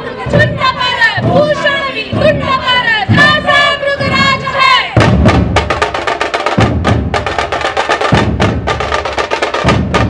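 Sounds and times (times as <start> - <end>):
deep dhol drum beats: 0.2 - 10.0.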